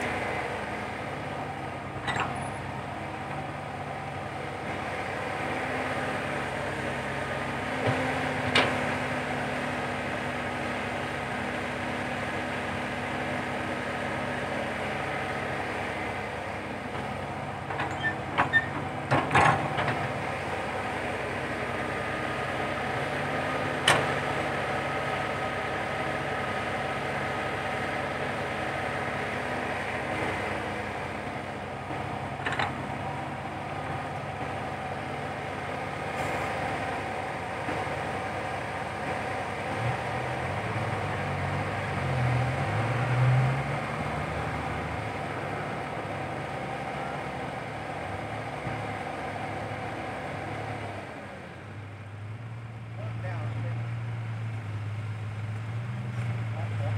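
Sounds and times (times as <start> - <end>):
excavator diesel engine rumble: 0.0 - 56.9.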